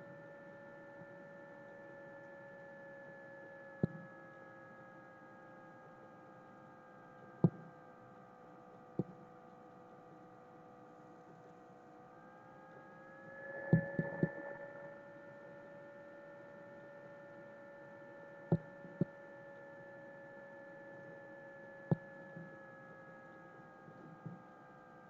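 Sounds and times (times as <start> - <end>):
steady tonal hum: 0.0 - 25.0.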